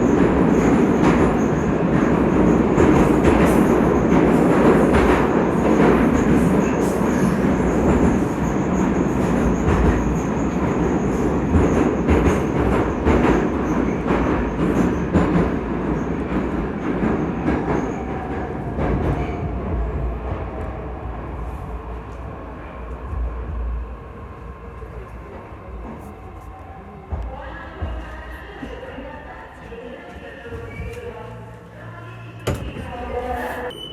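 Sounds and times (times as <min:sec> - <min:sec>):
train wheels rumbling on rails: 0:00.0 - 0:33.7.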